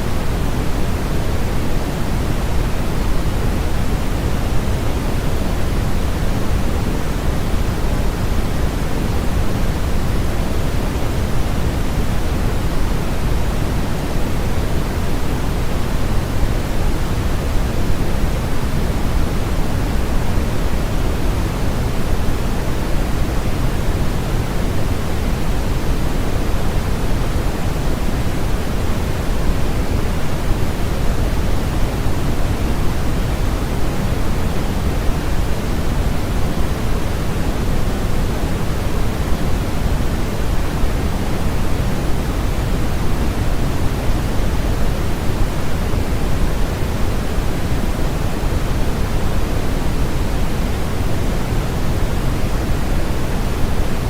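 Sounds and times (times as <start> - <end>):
steady synthetic noise hiss: 0.0 - 54.0.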